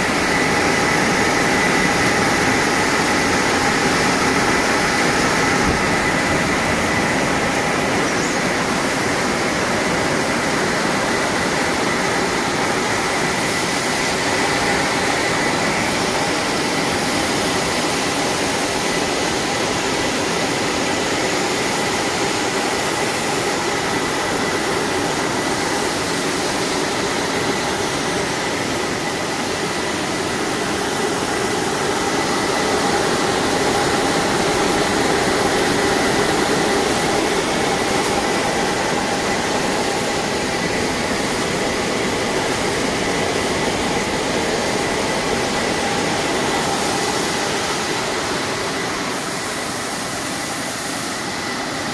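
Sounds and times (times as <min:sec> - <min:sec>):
blower rushing and bubbling water: 0:00.0 - 0:51.9.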